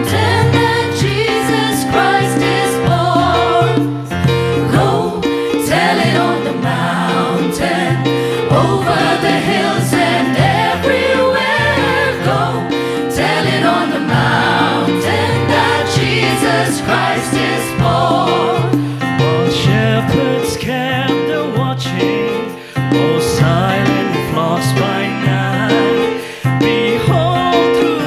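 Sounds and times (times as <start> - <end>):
choir singing gospel song: 0.0 - 28.0.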